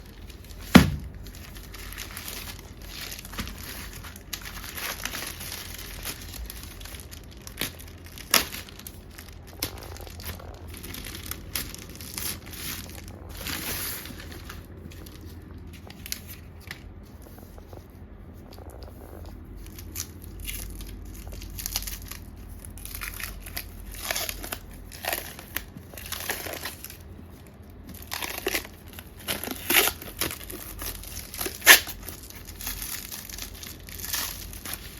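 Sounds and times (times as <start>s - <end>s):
packaging crinkling: 0.0s - 17.8s, 18.4s - 34.9s.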